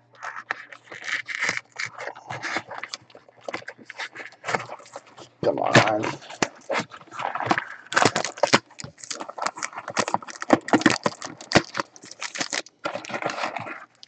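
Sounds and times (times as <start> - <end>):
cardboard box handling clicks and rustles: 0.2 - 14.0.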